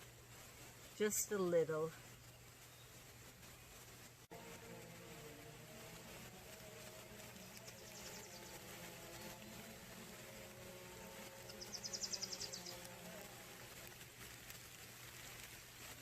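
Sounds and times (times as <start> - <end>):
light rain falling: 0.0 - 16.0.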